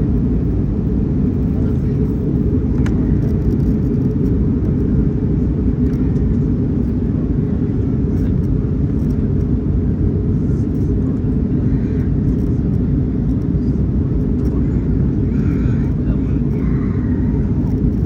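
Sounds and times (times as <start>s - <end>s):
airliner engine rumble: 0.0s - 18.0s.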